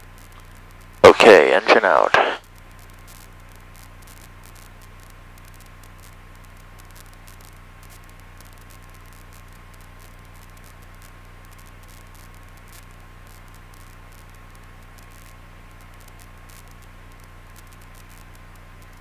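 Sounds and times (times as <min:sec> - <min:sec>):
static-like hiss: 0:00.0 - 0:19.0.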